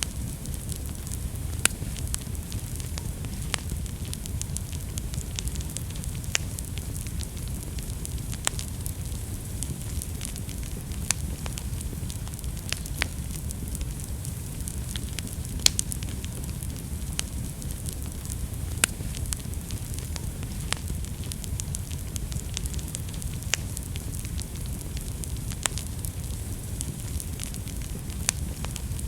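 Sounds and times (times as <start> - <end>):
fire crackles and pops: 0.0 - 29.0
wood fire rumbling: 0.0 - 29.0.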